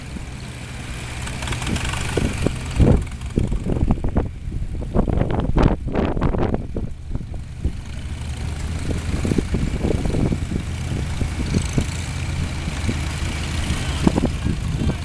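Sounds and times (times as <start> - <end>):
tractor engines rumbling: 0.0 - 15.0.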